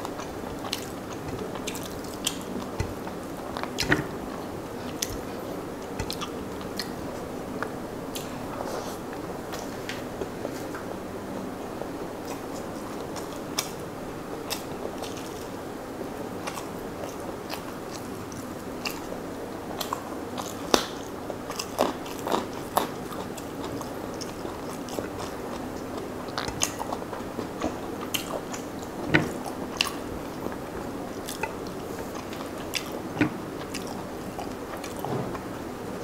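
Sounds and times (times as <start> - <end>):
person chewing food: 0.0 - 10.8, 12.2 - 15.6, 16.4 - 36.0.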